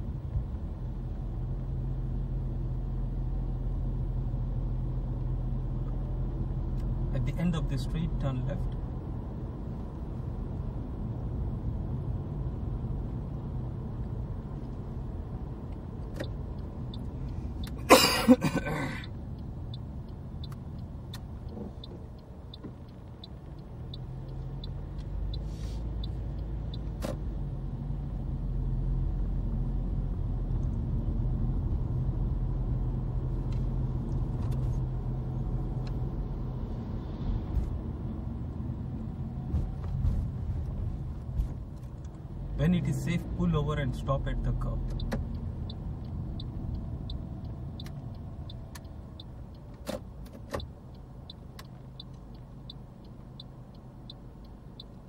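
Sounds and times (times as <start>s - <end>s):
car engine and road rumble: 0.0s - 55.0s
turn indicator ticking: 0.1s - 55.0s.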